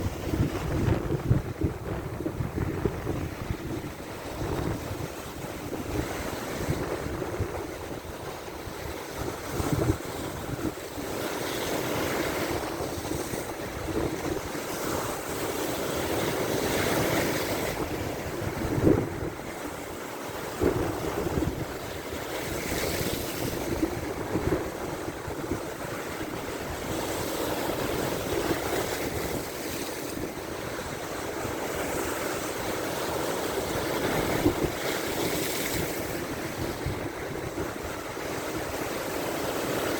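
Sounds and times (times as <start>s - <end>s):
wind buffeting microphone: 0.0s - 15.5s, 16.2s - 19.7s, 20.4s - 39.9s
waves breaking on shore: 0.0s - 39.9s.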